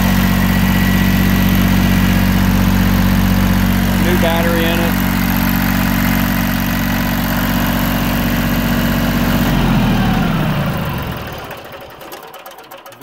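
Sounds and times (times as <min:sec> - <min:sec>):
engine spinning down: 0:00.0 - 0:13.0
tractor diesel engine idling: 0:00.0 - 0:13.0.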